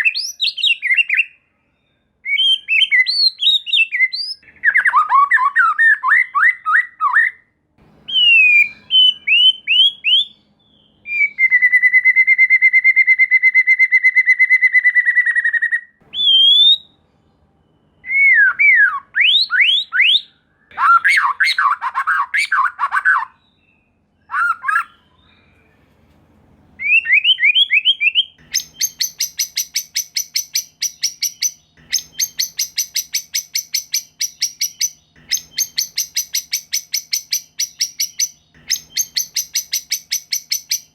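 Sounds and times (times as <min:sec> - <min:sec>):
bird singing whistled phrases: 0:00.0 - 0:07.5, 0:08.1 - 0:17.0, 0:17.6 - 0:25.8, 0:26.8 - 0:40.9.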